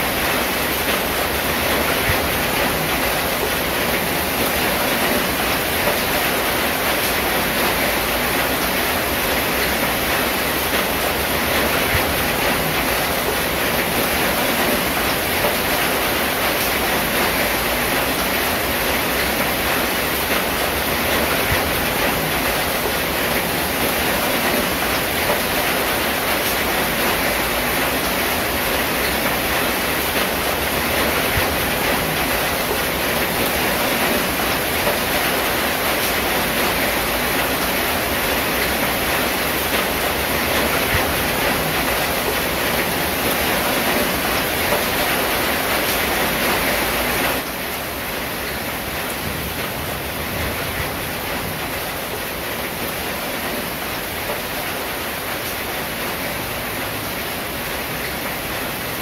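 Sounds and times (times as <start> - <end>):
rain on a metal roof: 0.0 - 59.0.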